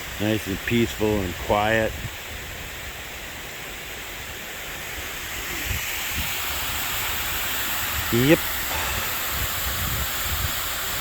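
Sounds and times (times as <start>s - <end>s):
flowing river water: 0.0s - 11.0s
light wind: 0.0s - 11.0s.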